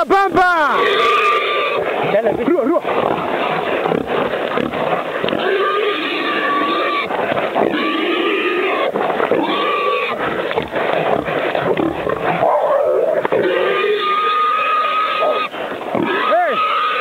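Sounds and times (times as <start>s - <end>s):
wild boar squealing: 0.3s - 17.0s.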